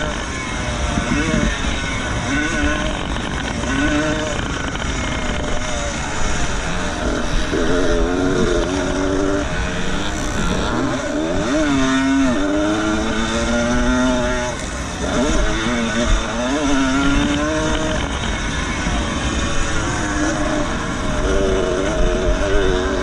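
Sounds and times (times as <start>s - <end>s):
two-stroke motocross engines revving: 0.0s - 23.0s.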